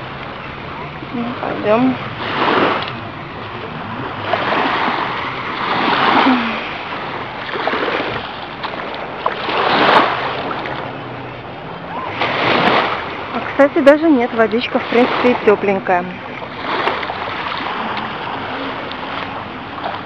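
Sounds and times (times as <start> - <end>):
waves washing on sandy shore: 0.0 - 20.0.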